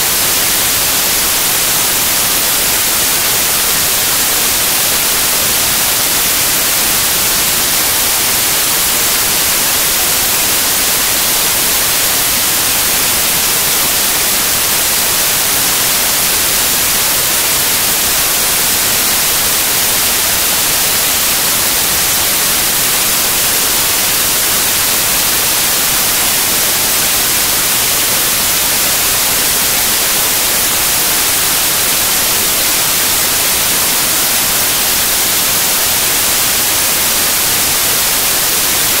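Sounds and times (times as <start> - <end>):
static hiss: 0.0 - 39.0.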